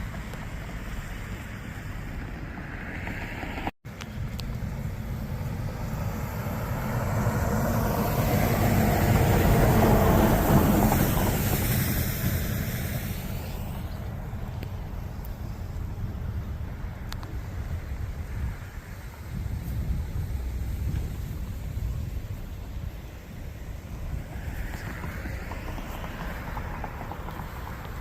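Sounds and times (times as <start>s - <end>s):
wind: 0.0s - 28.0s.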